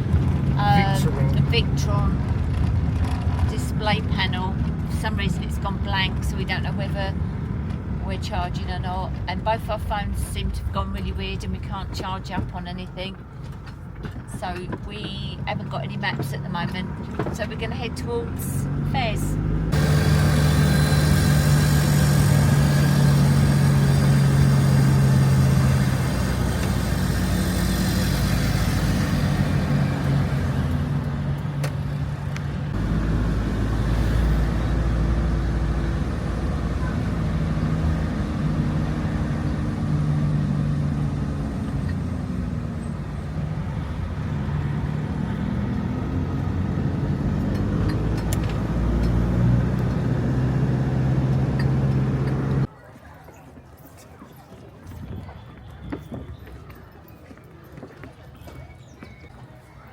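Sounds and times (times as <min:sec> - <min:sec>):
van engine: 0:00.0 - 0:52.7
road noise: 0:00.0 - 0:59.9.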